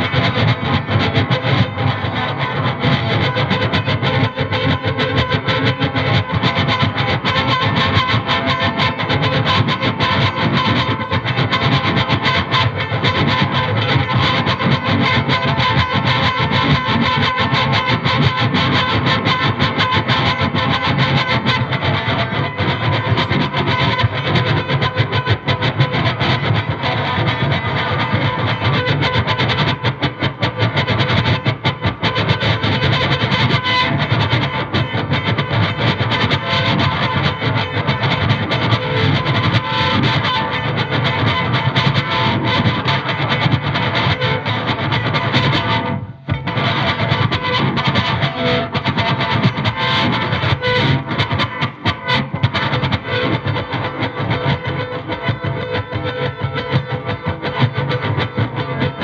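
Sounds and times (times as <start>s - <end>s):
distorted electric guitar noise: 0.0s - 59.0s.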